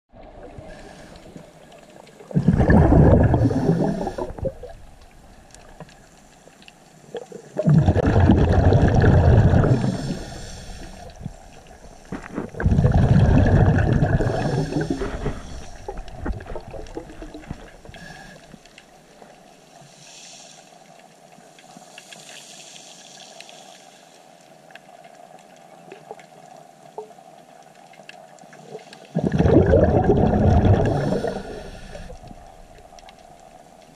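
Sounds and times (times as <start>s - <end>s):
muffled underwater water surging: 0.1s - 33.9s
faint steady hiss and hum: 0.2s - 33.9s.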